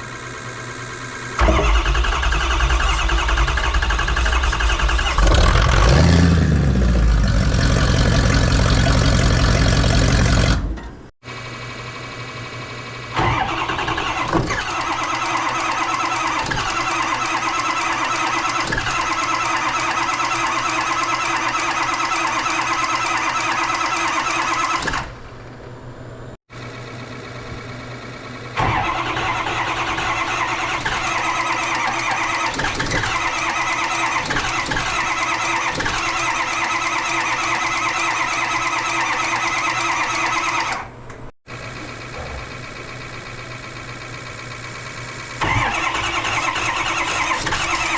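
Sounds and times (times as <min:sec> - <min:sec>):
diesel engine running: 0:00.0 - 0:25.5, 0:26.2 - 0:47.9.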